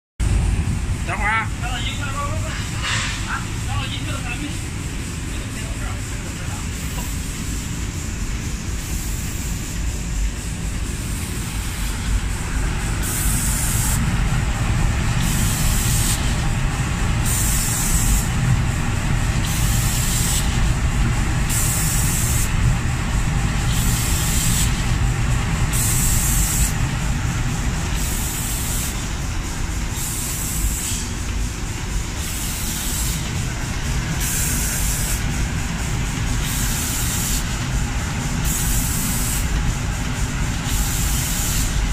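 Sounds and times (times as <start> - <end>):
low machine rumble: 0.2 - 32.4, 33.2 - 41.9
spray guns hissing: 1.6 - 41.9.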